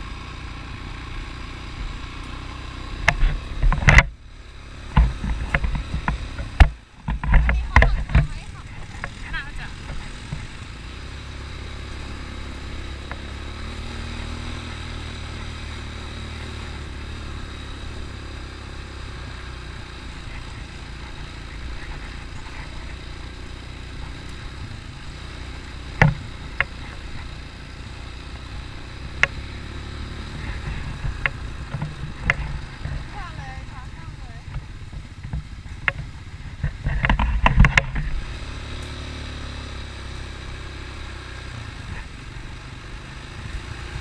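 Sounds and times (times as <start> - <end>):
atv engine running at low revs: 0.0 - 44.0.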